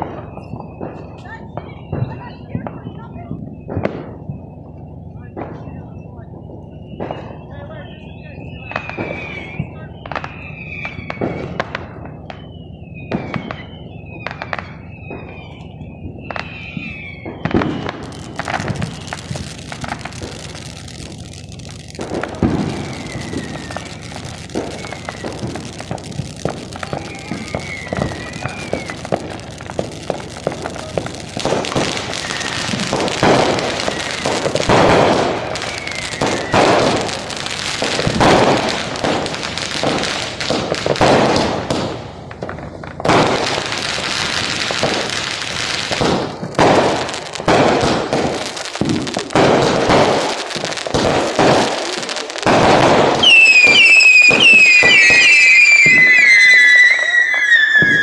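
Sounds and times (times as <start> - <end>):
fireworks bangs and crackles: 0.0 - 58.0
fireworks whistles sliding down: 0.0 - 58.0.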